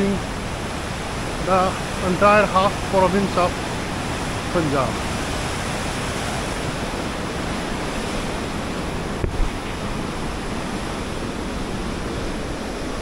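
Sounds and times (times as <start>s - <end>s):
water rushing through gates: 0.0s - 13.0s.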